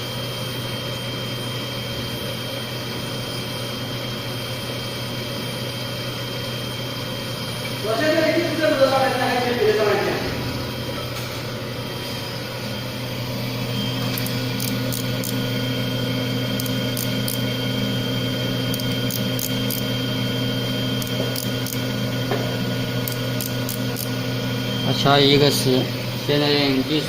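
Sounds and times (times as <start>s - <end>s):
grinder motor hum: 0.0s - 27.0s
high steady whine: 0.0s - 27.0s.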